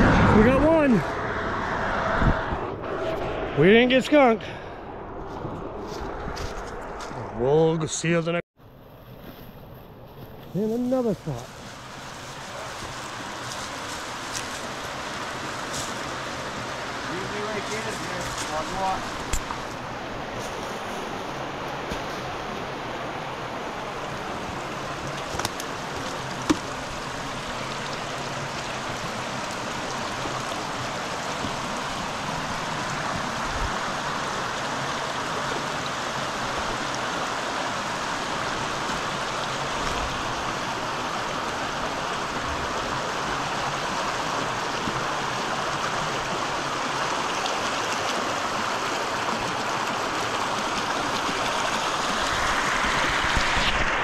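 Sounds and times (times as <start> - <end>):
brook rushing over stones: 8.9 - 54.0.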